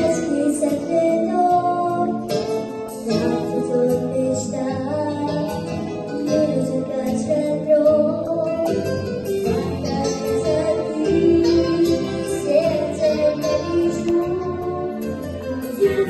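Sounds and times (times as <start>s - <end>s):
guitar accompaniment: 0.0s - 16.0s
young woman singing: 0.0s - 16.0s.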